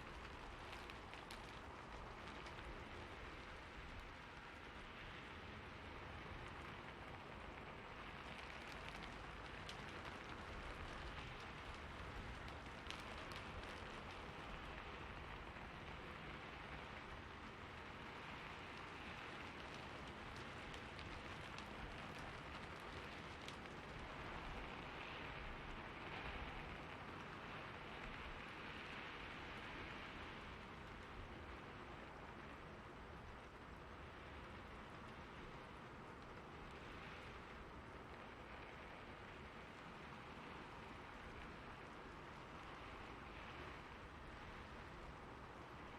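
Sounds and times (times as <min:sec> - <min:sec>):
faint rain falling: 0:00.0 - 0:45.9.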